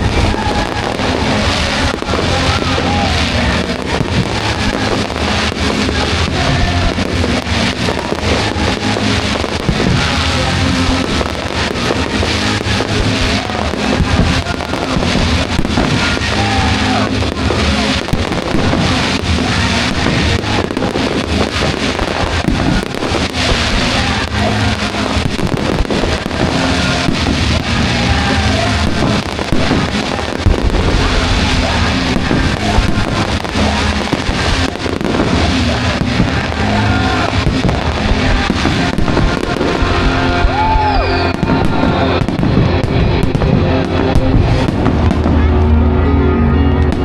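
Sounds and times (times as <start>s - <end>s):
firework whistling: 0.0s - 45.7s
fireworks bursting and crackling: 0.0s - 46.0s, 46.8s - 47.0s
loud music: 0.0s - 47.0s.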